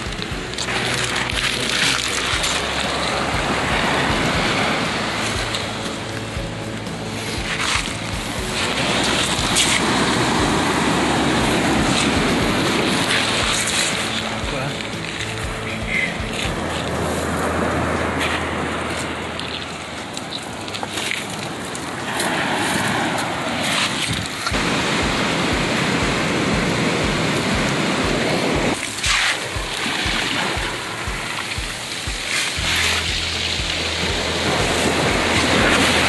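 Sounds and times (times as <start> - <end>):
surf washing over pebbles: 0.0 - 36.0.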